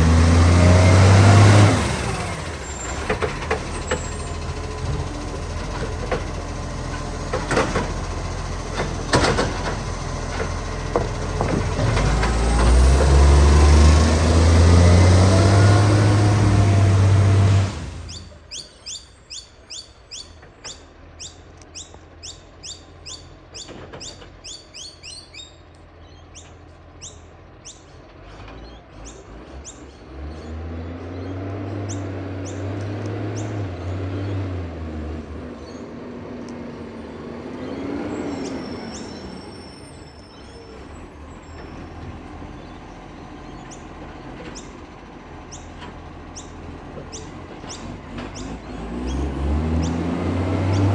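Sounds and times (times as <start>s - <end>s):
heavy vehicle engines passing: 0.0s - 50.9s.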